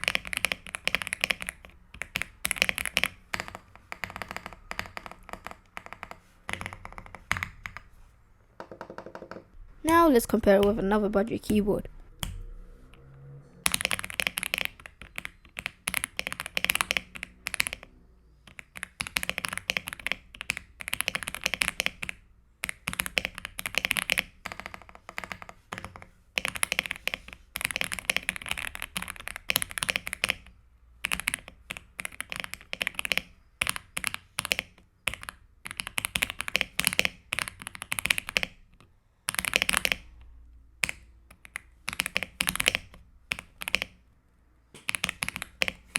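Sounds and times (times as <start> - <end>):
mechanical keyboard typing: 0.0 - 7.9, 13.6 - 44.0, 44.8 - 45.9.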